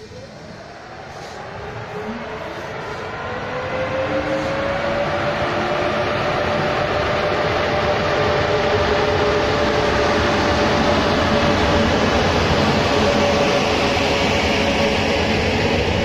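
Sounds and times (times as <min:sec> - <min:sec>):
electric locomotive whine: 0:00.0 - 0:16.0.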